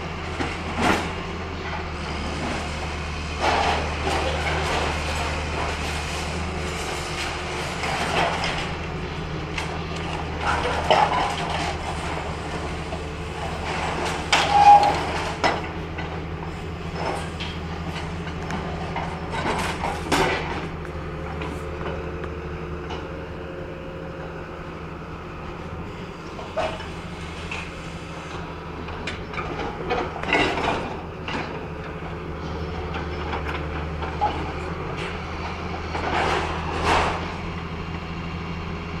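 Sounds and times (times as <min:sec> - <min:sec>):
excavator diesel engine: 0:00.0 - 0:39.0.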